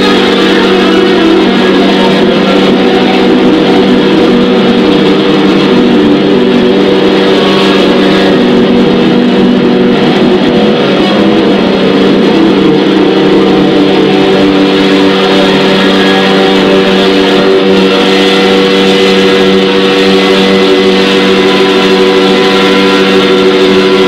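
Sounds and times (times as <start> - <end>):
distorted guitar noise: 0.0 - 24.0
low droning tones: 0.0 - 24.0.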